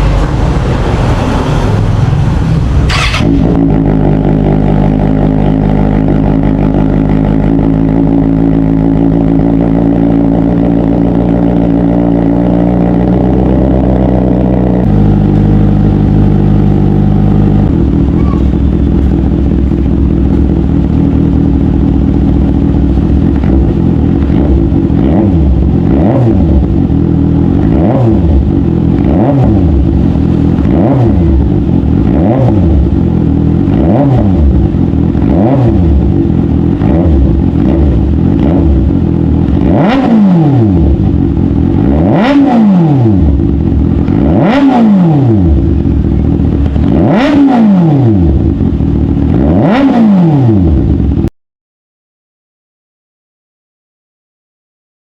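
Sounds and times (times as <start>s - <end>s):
motorcycle engine revving: 0.0s - 51.3s.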